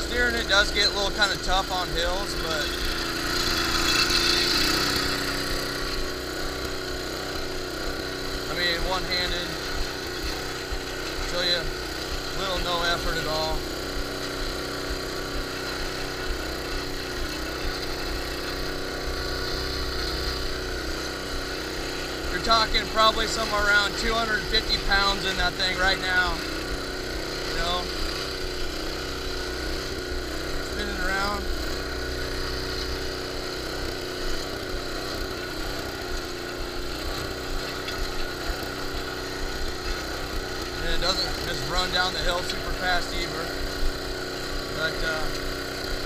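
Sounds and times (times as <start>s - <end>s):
small engine running steadily: 0.0s - 46.0s.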